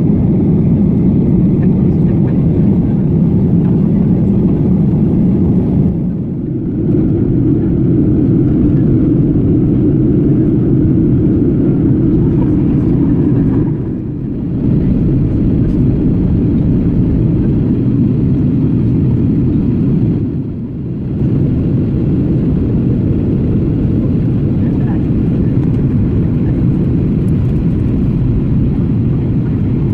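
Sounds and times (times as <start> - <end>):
jet engines and airflow rumble: 0.0 - 29.9.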